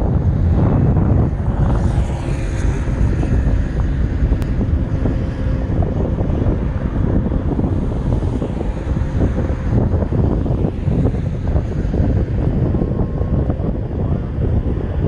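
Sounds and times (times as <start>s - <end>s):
traffic noise: 0.0s - 15.0s
wind buffeting microphone: 0.0s - 15.0s.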